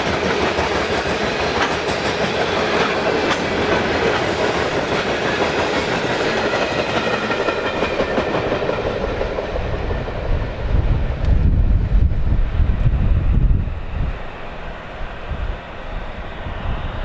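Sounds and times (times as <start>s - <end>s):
freight train cars rumbling past: 0.0s - 17.0s.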